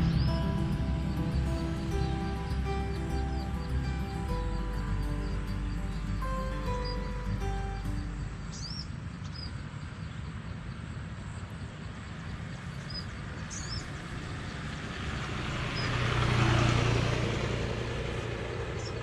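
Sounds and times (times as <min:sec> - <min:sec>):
vehicle approaching: 0:00.0 - 0:09.8, 0:12.0 - 0:19.0
birds chirping: 0:00.0 - 0:10.9, 0:11.9 - 0:16.6
outdoor background noise: 0:00.0 - 0:19.0.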